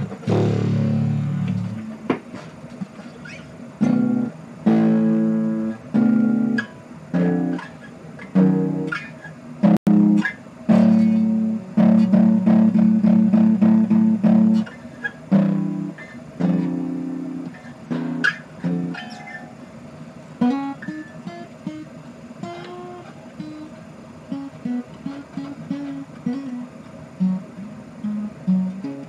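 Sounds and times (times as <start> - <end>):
acoustic guitar picking: 0.0 - 29.0.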